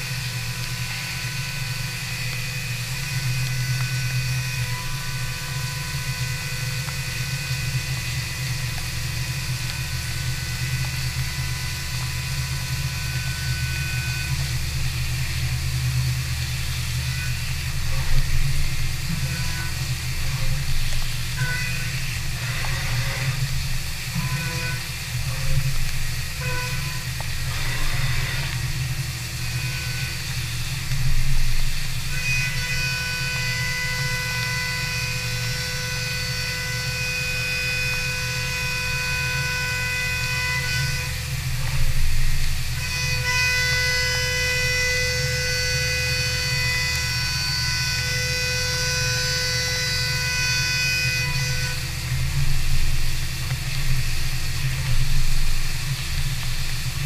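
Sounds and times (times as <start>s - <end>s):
high milling cutting tone: 0.0s - 57.0s
machine hum: 0.0s - 57.0s.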